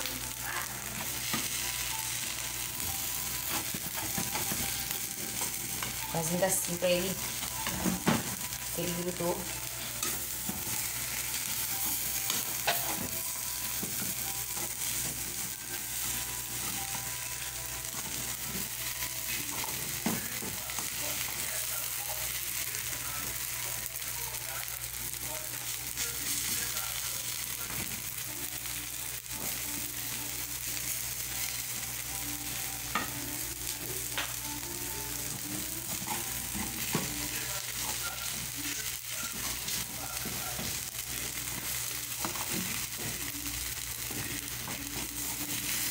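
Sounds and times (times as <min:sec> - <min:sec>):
food sizzling in oil: 0:00.0 - 0:45.9.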